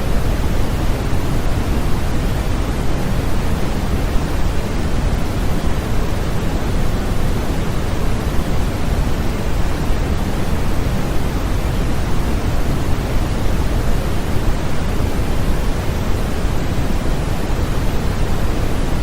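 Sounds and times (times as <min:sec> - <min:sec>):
steady white noise rush: 0:00.0 - 0:19.0.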